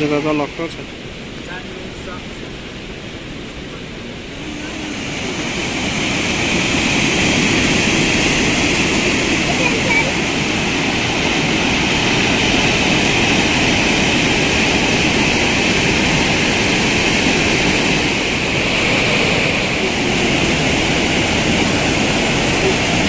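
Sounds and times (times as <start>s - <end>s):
river rushing over boulders: 0.0s - 23.0s.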